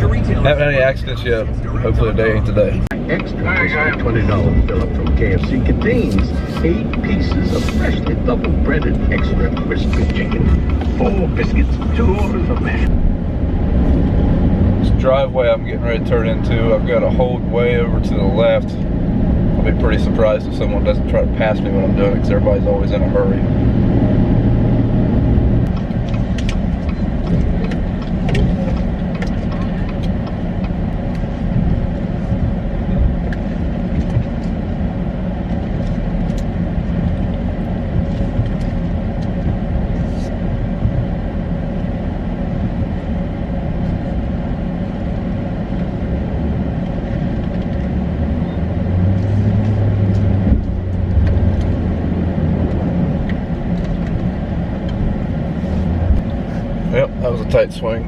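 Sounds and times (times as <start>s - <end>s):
vehicle engine rumble from cab: 0.0s - 58.0s.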